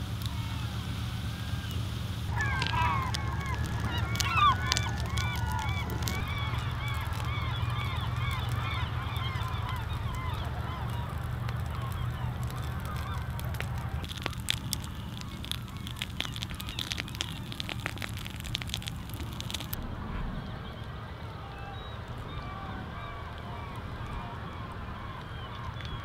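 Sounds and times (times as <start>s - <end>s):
gulls calling: 0.0s - 26.0s
steady low rumble: 0.0s - 26.0s
sharp crackling clicks: 1.6s - 21.4s, 23.3s - 26.0s.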